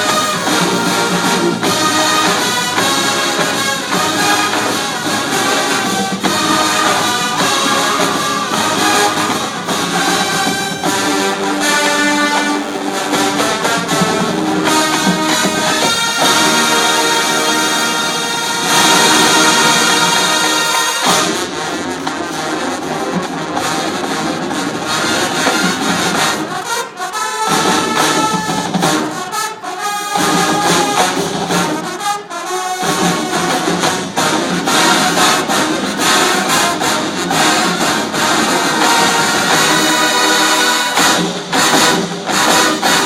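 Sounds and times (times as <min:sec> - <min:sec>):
drums: 0:00.0 - 0:43.0
marching band brass playing: 0:00.0 - 0:43.0.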